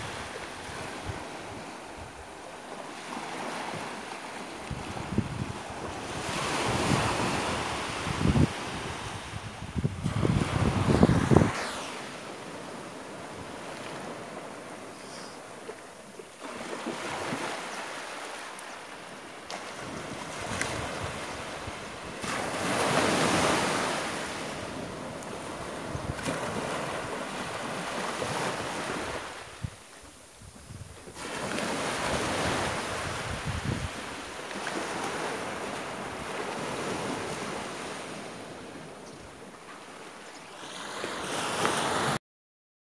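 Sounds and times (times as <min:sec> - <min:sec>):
sea waves breaking on beach: 0:00.0 - 0:42.2.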